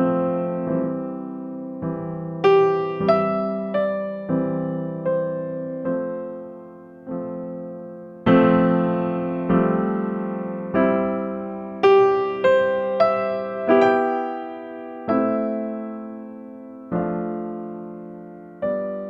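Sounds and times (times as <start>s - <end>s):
slow electric piano chords: 0.0s - 19.0s.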